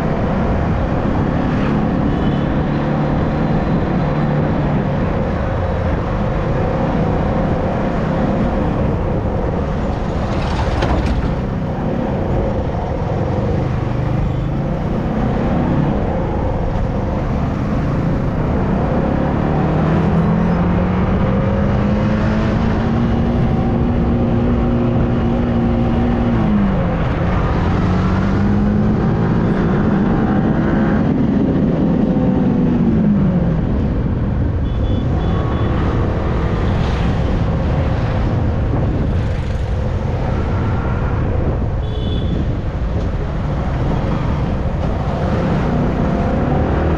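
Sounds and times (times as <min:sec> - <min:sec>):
wind rush on microphone: 0:00.0 - 0:46.9.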